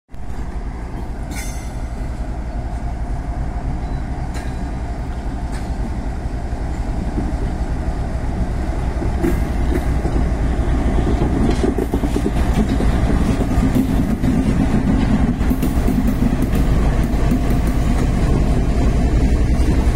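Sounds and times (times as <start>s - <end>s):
diesel locomotive rumbling: 0.1s - 19.9s.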